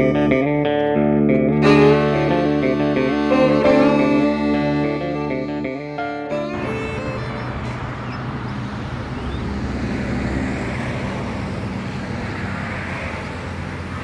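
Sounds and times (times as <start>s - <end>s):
road and wind noise: 0.0s - 14.0s
vehicle engine hum: 0.0s - 14.0s.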